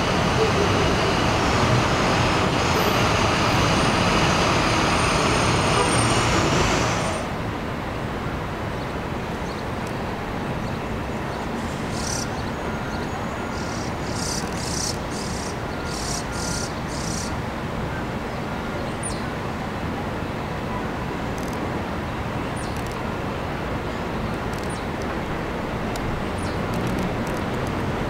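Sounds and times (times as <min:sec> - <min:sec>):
distant rumble of elevated trains: 0:00.0 - 0:28.0
passing train: 0:00.0 - 0:28.0.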